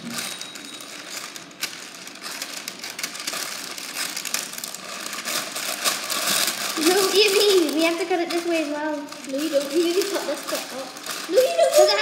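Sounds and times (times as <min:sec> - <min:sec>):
baking paper rustling and crinkling: 0:00.0 - 0:12.0.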